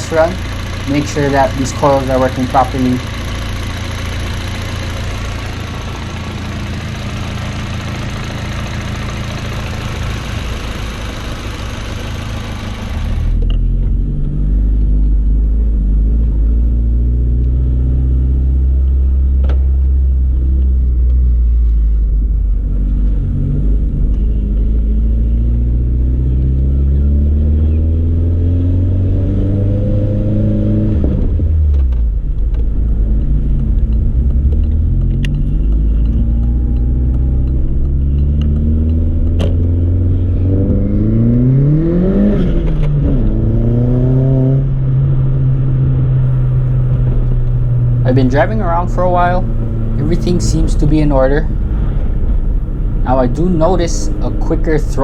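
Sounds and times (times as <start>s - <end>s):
car engine idling: 0.0s - 27.7s, 31.5s - 41.3s, 44.7s - 55.0s
car accelerating and shifting gears: 0.0s - 55.0s.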